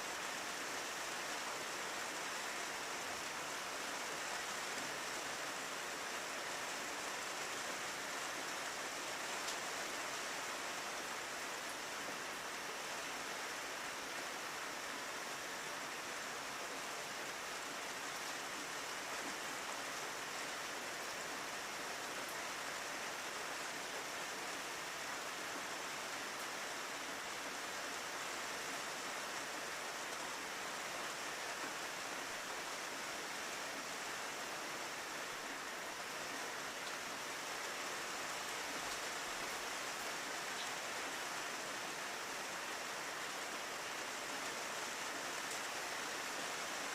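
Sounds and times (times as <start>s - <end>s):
rain on a window: 0.0s - 46.9s.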